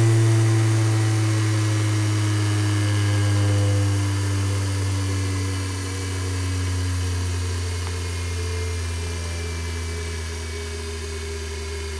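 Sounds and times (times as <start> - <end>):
turbine rotor humming: 0.0 - 11.9.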